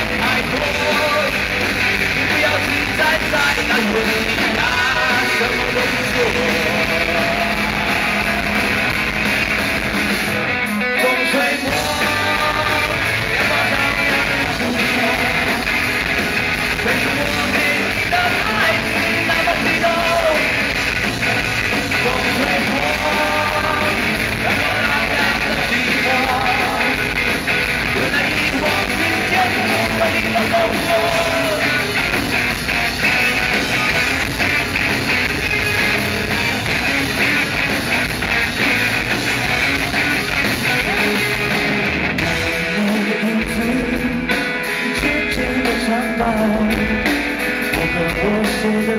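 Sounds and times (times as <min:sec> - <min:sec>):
live rock band: 0:00.0 - 0:48.9.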